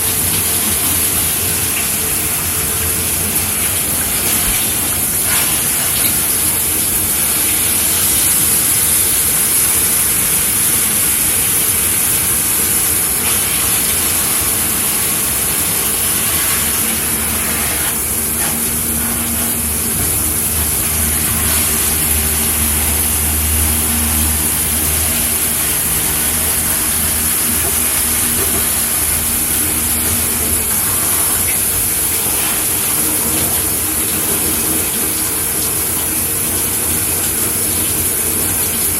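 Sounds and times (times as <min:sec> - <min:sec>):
shower water spraying: 0:00.0 - 0:38.9.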